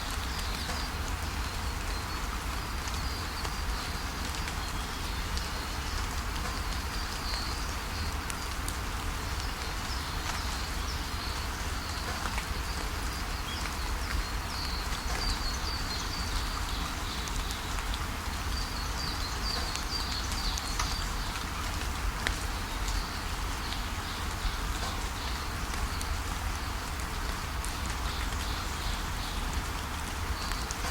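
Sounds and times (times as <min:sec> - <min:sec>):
steady rain falling: 0:00.0 - 0:30.9.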